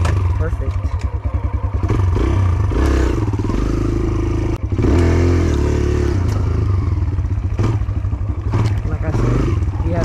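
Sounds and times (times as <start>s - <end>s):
dirt bike engine idling and revving: 0.0s - 10.0s.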